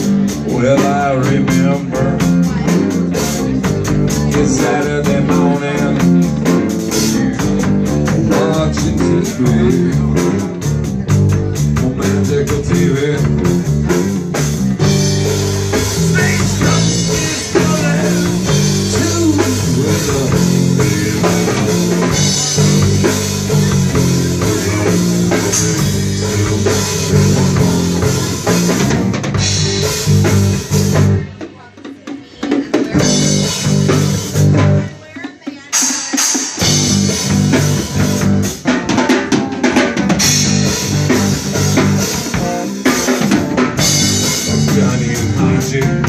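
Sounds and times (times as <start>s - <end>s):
bass guitar: 0.0s - 31.6s, 32.4s - 46.0s
drum kit: 0.0s - 46.0s
guitar: 0.0s - 46.0s.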